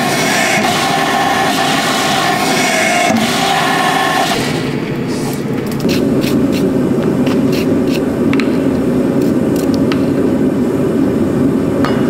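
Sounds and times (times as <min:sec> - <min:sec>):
forge whining: 0:00.0 - 0:11.9.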